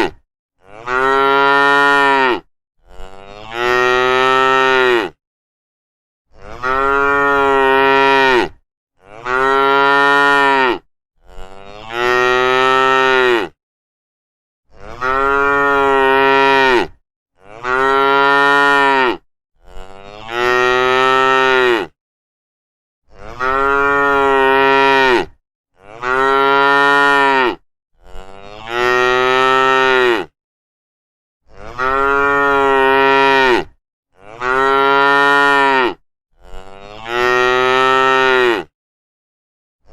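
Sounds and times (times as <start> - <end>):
cow mooing: 0.0 - 5.2, 6.3 - 13.6, 14.7 - 22.0, 23.1 - 30.3, 31.5 - 38.7.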